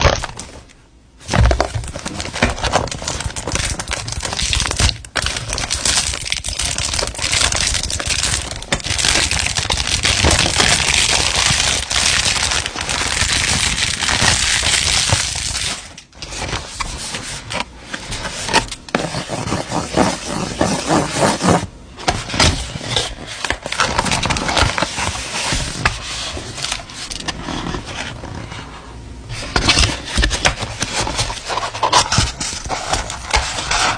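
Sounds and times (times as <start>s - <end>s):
packaging crackling and crinkling: 0.0s - 28.6s, 29.4s - 33.9s.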